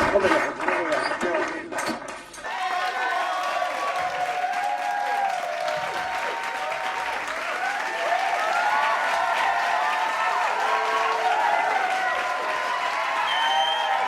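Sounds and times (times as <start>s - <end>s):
crowd clapping and cheering: 0.0s - 14.0s.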